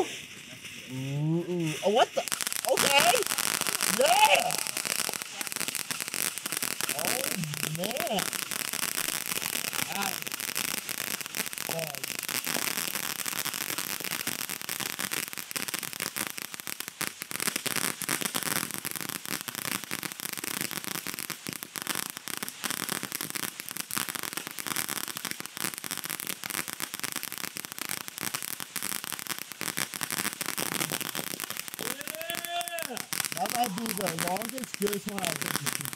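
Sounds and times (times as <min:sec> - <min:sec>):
fireworks crackling and popping: 0:00.0 - 0:35.9.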